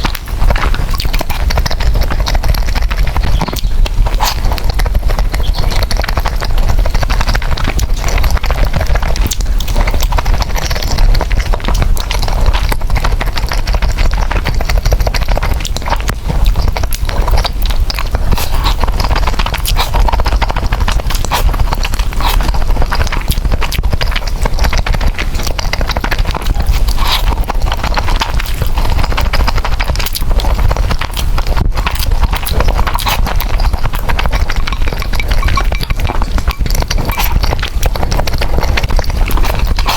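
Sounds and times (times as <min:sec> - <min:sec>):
chewing noodles: 0:00.0 - 0:39.9
wet mouth clicks: 0:00.0 - 0:39.9.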